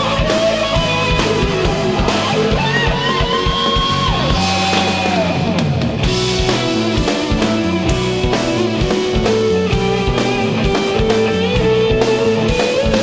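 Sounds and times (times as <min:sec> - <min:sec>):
rock music with electric guitar: 0:00.0 - 0:13.0.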